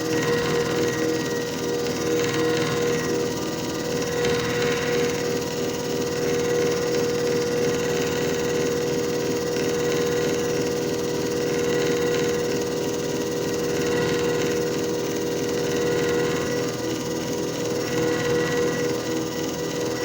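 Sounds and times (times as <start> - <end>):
machine motor humming and whining: 0.0 - 20.0.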